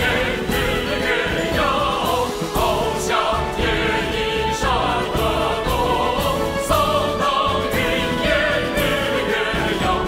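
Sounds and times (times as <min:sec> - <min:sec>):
chorus singing military song: 0:00.0 - 0:10.0
instrumental accompaniment: 0:00.0 - 0:10.0.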